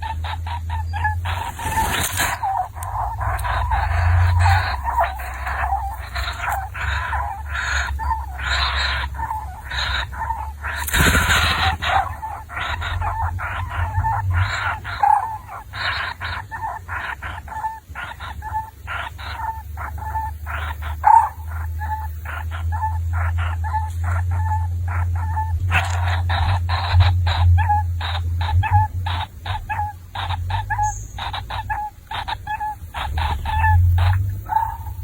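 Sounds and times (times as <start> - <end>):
bird calling: 0.0 - 35.0
steady low hum: 0.0 - 35.0.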